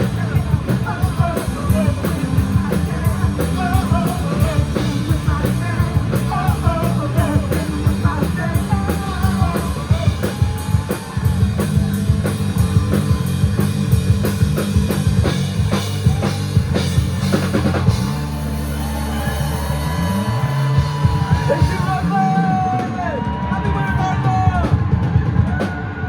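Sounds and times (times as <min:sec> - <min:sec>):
bass guitar: 0:00.0 - 0:26.0
drum kit: 0:00.0 - 0:26.0
electric guitars: 0:00.0 - 0:26.0.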